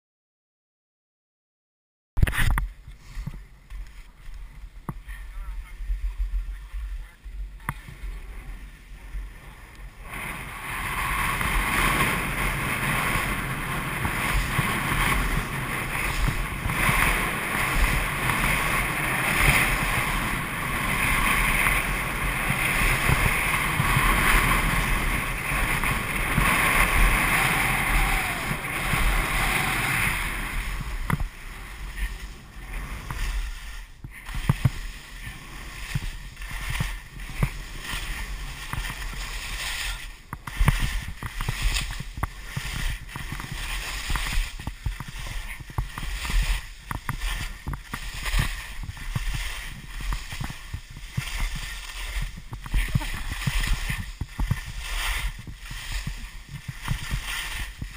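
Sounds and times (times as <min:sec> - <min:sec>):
skis sliding on snow: 0:02.2 - 0:57.9
wind rumbling on microphone: 0:02.2 - 0:57.9.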